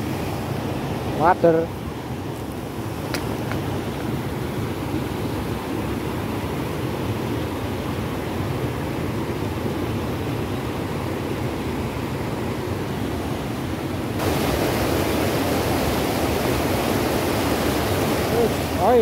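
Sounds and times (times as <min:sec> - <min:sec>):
water rushing over weir: 0:00.0 - 0:19.0.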